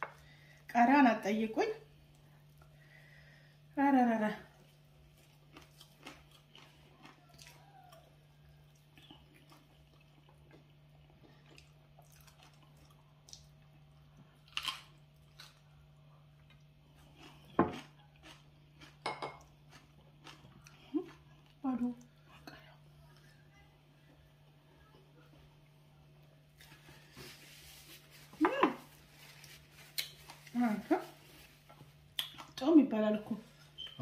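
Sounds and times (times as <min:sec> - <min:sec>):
faint steady hum: 0:00.0 - 0:34.0
soft chewing: 0:04.4 - 0:32.6.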